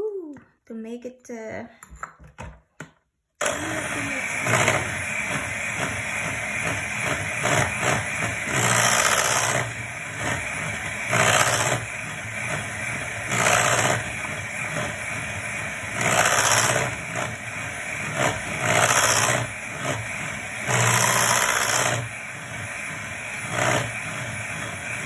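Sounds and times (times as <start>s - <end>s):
electric hand mixer whirring: 3.4s - 25.0s.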